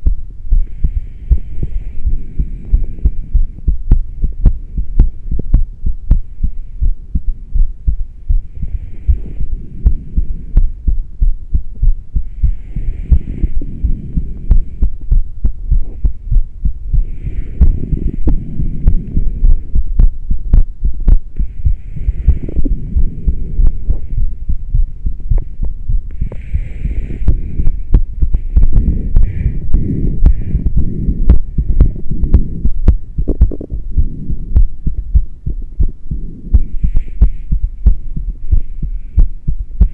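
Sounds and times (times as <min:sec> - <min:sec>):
fast heartbeat: 0:00.0 - 0:39.9
soft rushing breath: 0:00.0 - 0:39.9.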